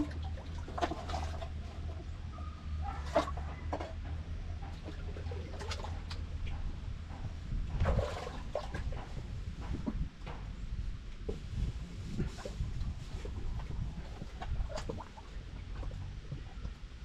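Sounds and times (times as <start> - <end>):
steady low hum: 0.0 - 17.0
water sloshing and gurgling: 0.0 - 17.0.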